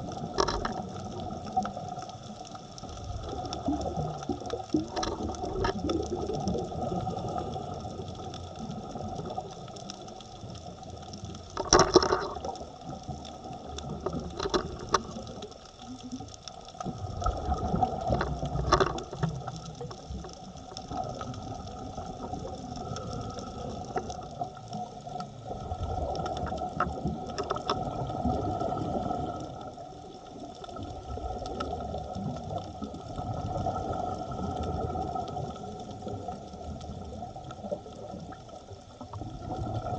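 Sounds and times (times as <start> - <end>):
regulator exhaust bubbles underwater: 0.0 - 39.9.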